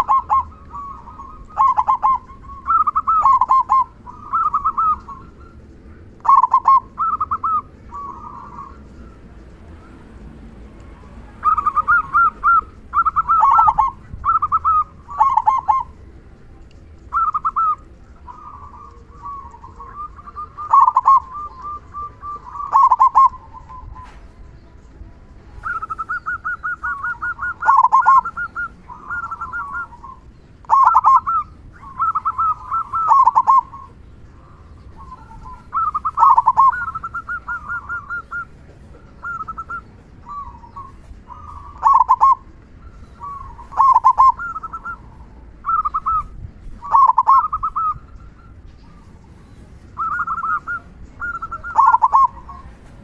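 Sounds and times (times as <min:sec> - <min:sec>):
dove cooing: 0:00.0 - 0:16.1, 0:17.1 - 0:24.8, 0:25.4 - 0:53.0.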